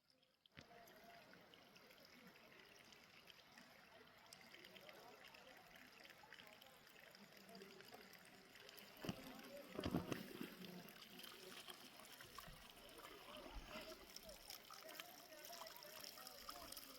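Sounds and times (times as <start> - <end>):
faint running water trickling: 0.0 - 16.9.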